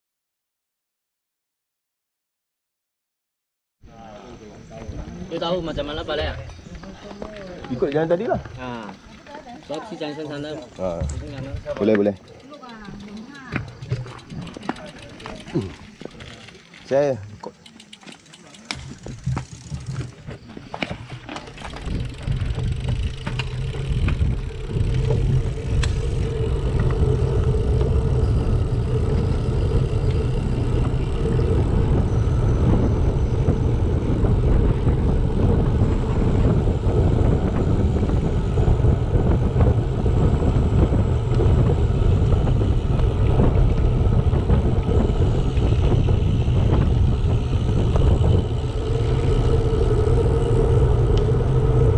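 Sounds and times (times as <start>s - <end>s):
wind buffeting microphone: 4.7s - 16.4s, 18.7s - 51.9s.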